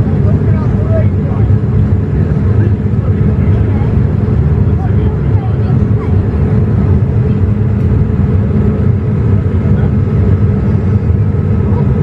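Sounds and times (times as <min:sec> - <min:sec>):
airliner cabin roar: 0:00.0 - 0:12.0.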